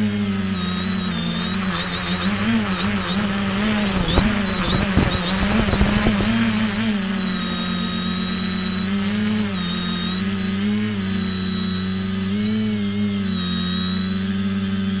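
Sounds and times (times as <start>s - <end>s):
drone motors humming: 0.0s - 15.0s
high whine: 0.0s - 15.0s.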